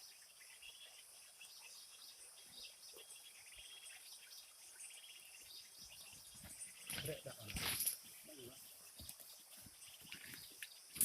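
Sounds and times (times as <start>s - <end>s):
bird chirps: 0.0s - 11.0s
insects droning: 0.0s - 11.0s
rapid insect trill: 0.0s - 11.0s.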